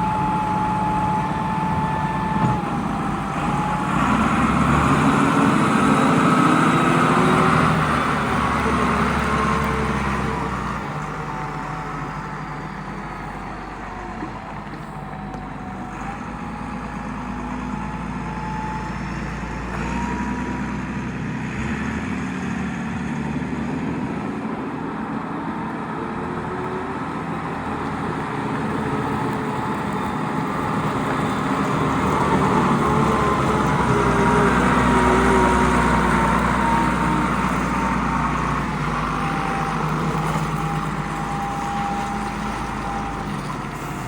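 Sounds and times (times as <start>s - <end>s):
forklift engine running: 0.0s - 44.0s.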